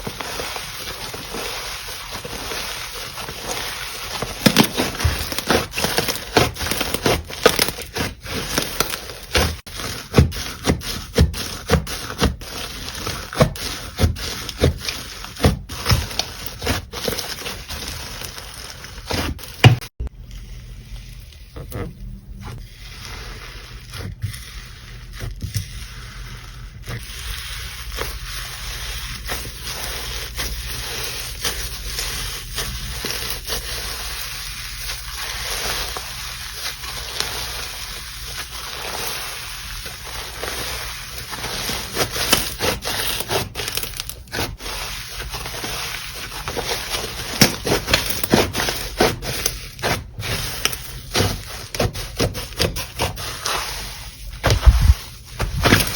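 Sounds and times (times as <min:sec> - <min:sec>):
slime squelching: 0:00.0 - 0:55.9.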